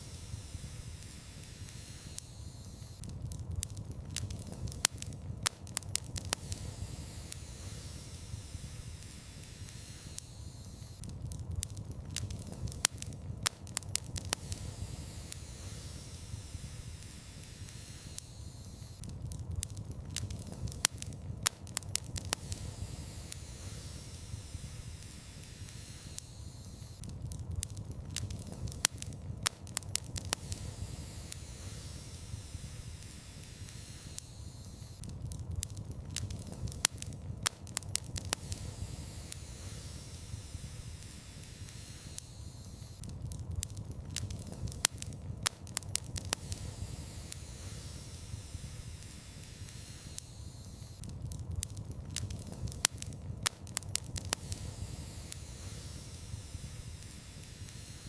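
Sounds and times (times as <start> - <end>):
rumble and hiss of flames: 0.0 - 58.0
wood fire pops and snaps: 0.0 - 58.0.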